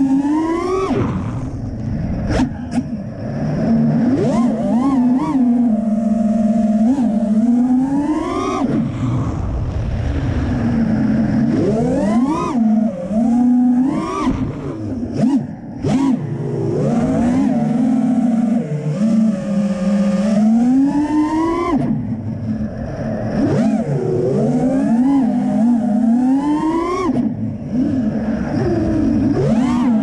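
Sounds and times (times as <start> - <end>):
quadcopter motors whining: 0.0 - 9.6, 10.3 - 30.0.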